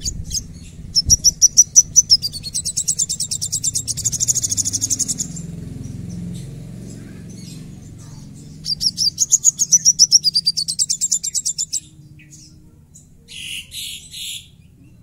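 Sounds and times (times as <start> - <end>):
bird chirp: 0.0 - 15.0
bird singing fast trill: 0.0 - 15.0.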